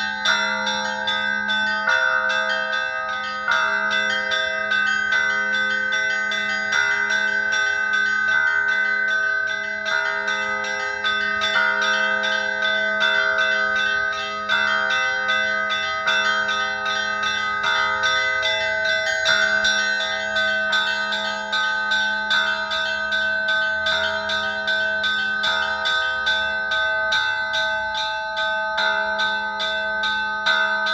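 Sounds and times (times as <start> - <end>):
low bell tone: 0.0 - 30.9
small bells ringing rapidly: 0.0 - 30.9.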